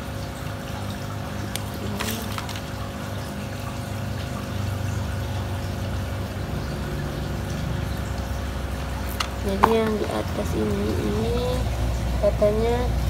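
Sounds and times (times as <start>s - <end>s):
low pump hum: 0.0s - 13.0s
water running: 0.0s - 13.0s.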